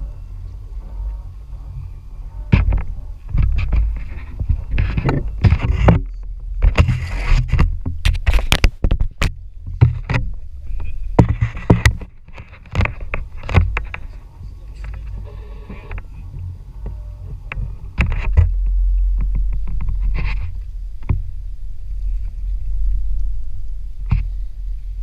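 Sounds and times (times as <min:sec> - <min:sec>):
low rumble: 0:00.0 - 0:25.0
wind buffeting microphone: 0:00.0 - 0:25.0
sharp knocks and rattles: 0:02.3 - 0:24.4.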